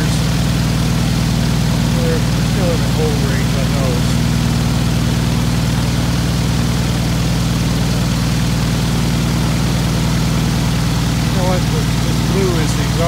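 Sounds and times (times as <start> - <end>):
aircraft engine running: 0.0 - 13.0.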